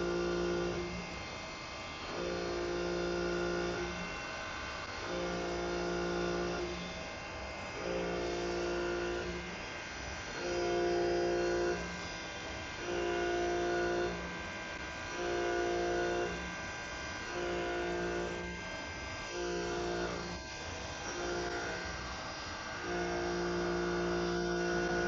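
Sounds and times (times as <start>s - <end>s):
lathe motor hum and whine: 0.0s - 25.0s.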